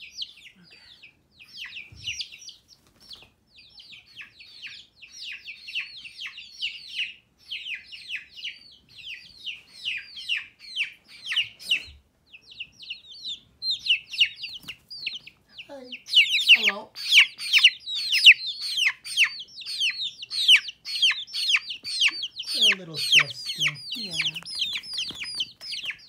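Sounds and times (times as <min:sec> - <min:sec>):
baby chicks peeping: 0:00.0 - 0:26.0.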